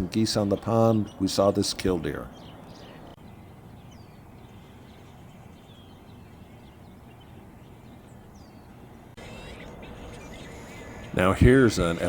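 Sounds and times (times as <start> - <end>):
faint high bird calls: 2.2 - 12.0.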